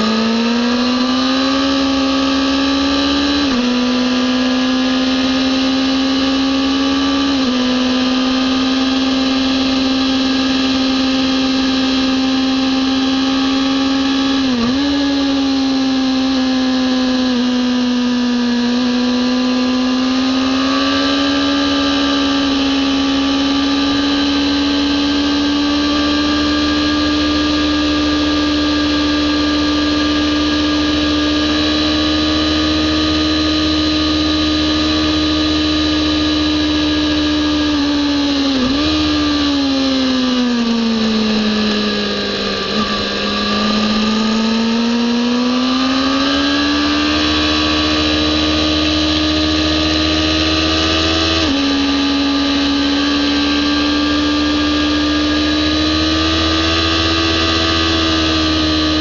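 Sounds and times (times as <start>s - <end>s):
motorcycle engine whining at high revs: 0.0s - 59.0s.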